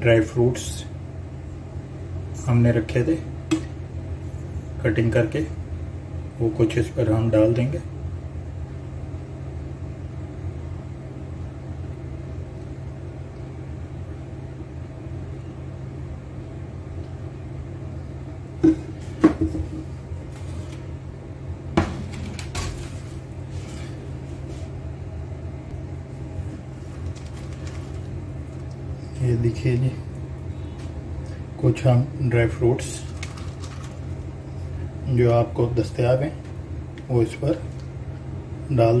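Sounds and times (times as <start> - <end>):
low hum: 0.7 - 39.0.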